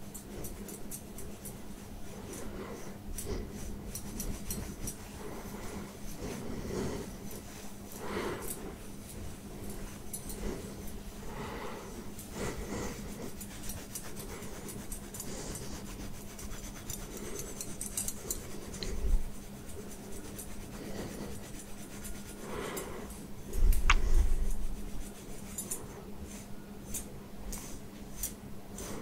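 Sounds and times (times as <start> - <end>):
wire massager scratching hair: 0.0 - 29.0.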